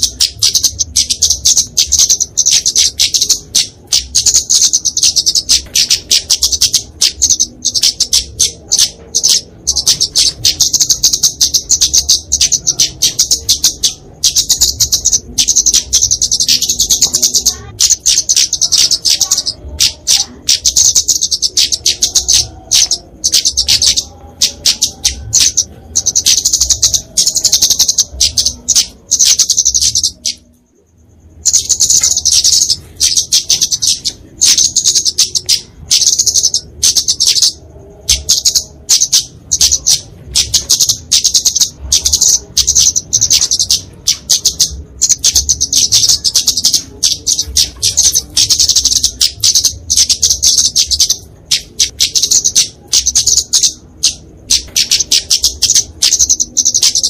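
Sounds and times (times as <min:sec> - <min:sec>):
bird calling in sharp chirps: 0:00.0 - 0:57.0.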